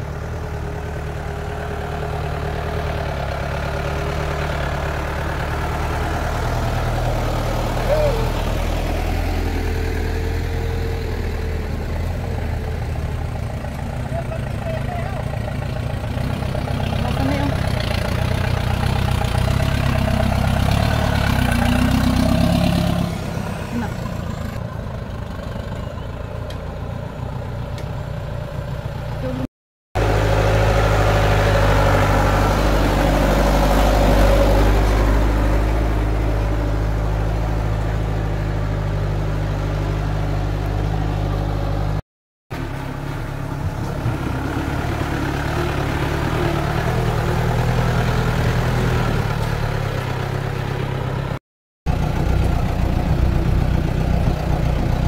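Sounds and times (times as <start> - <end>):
off-road vehicle engines running: 0.0 - 55.0.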